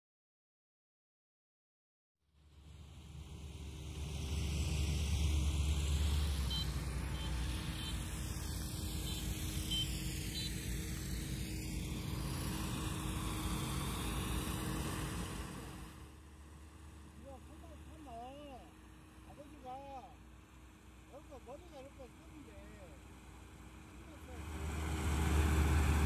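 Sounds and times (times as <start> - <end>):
engine humming: 2.4 - 26.0.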